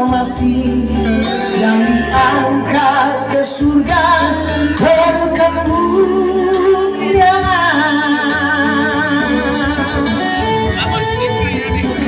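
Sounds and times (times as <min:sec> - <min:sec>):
person singing a hymn: 0:00.0 - 0:11.0
instrumental accompaniment: 0:00.0 - 0:12.0.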